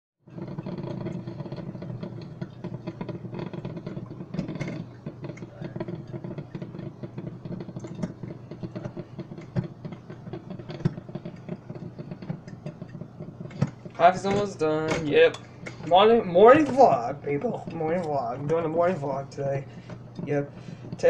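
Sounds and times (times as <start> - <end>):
coffee maker gurgling: 0.2 - 21.0.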